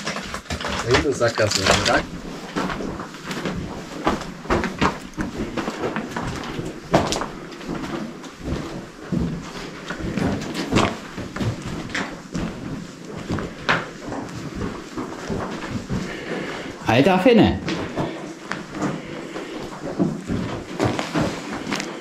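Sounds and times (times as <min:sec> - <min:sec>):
footsteps crunching on loose rock: 0:00.0 - 0:16.8, 0:17.6 - 0:22.0.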